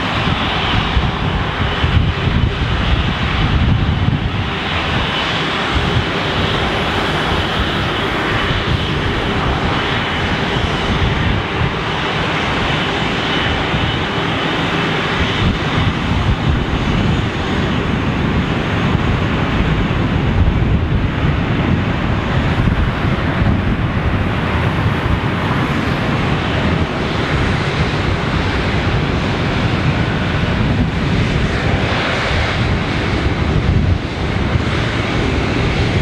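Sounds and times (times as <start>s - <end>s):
jet engines rumbling: 0.0s - 36.0s.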